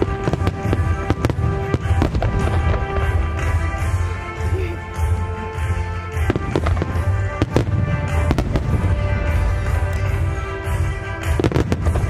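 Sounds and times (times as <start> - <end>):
song playing: 0.0 - 12.0.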